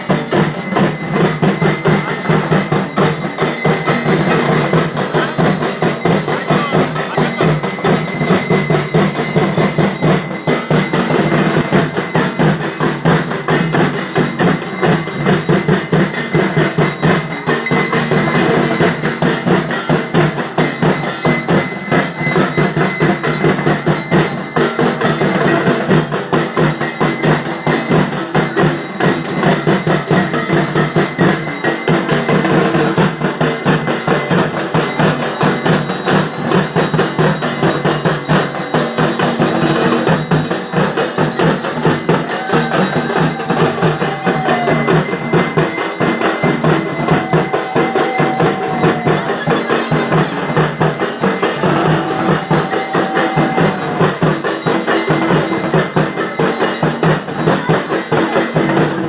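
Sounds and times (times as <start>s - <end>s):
drums beaten rapidly: 0.0s - 59.0s
metal bells ringing: 0.0s - 59.0s.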